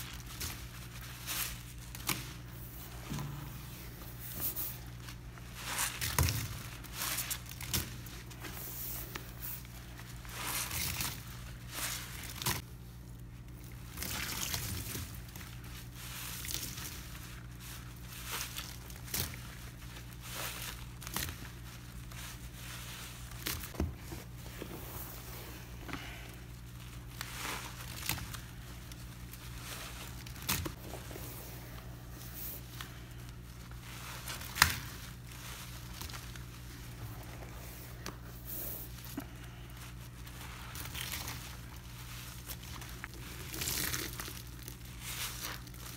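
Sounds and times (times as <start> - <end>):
faint steady hum: 0.0 - 45.9
sponge squishing and crunching: 0.0 - 45.9.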